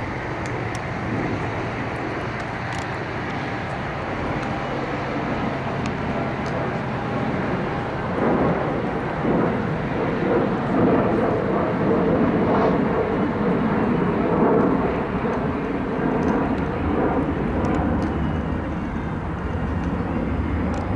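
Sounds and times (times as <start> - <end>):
diesel locomotive engine drone: 0.0 - 20.9.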